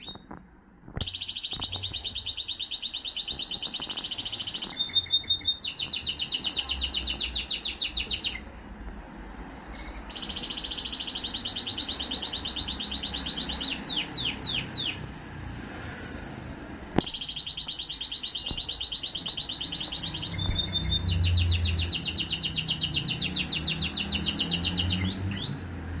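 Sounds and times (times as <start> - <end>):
canary singing metallic trills: 1.0 - 8.5, 9.7 - 15.1, 17.0 - 25.8.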